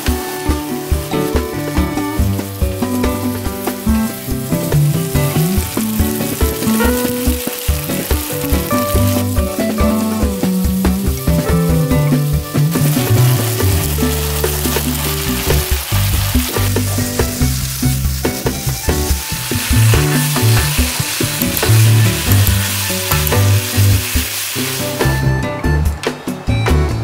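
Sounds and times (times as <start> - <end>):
food sizzling in a frying pan: 0.0 - 25.4
low background music: 0.0 - 27.0.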